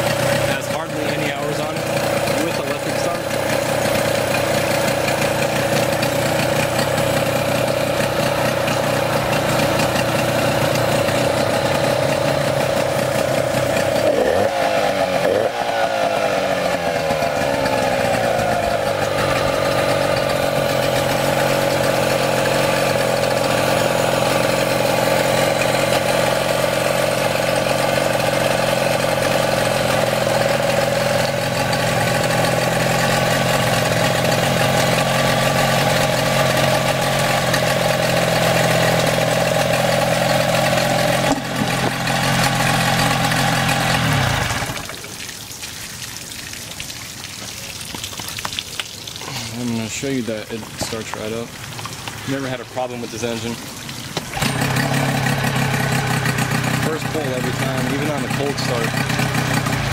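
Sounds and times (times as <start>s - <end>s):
outboard motor idling: 0.0s - 59.9s.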